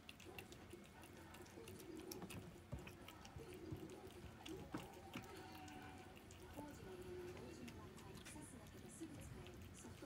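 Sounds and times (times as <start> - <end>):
cat chewing food: 0.0 - 10.0.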